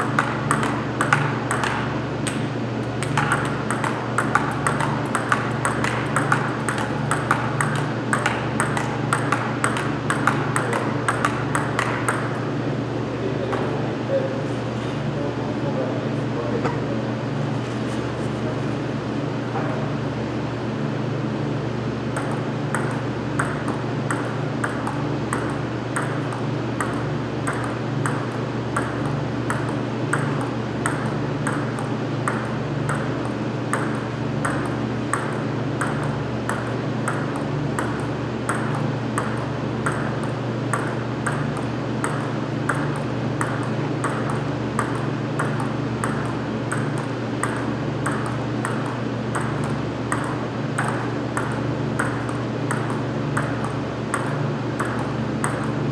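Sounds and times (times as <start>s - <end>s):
table tennis ball clicking: 0.0s - 2.4s, 3.0s - 12.4s, 22.1s - 55.8s
steady low hum: 0.0s - 55.9s.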